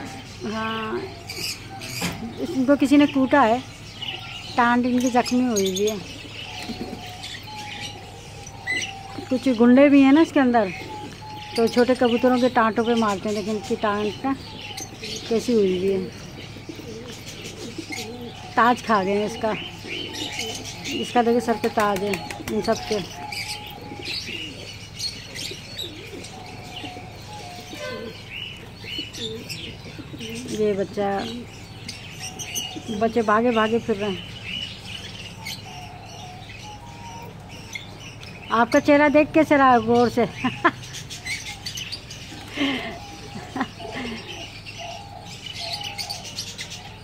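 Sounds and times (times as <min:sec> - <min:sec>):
bird chirps: 0:00.0 - 0:47.0
pigeons cooing: 0:00.0 - 0:47.0.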